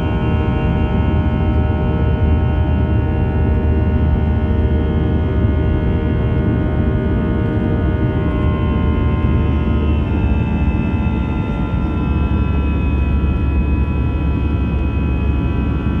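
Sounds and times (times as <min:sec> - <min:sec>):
engine whine: 0:00.0 - 0:16.0
jet engines roaring in cabin: 0:00.0 - 0:16.0.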